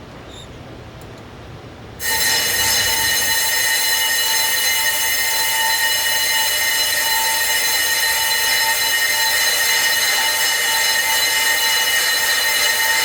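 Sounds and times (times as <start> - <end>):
high-pitched brake squeal: 2.0 - 13.0.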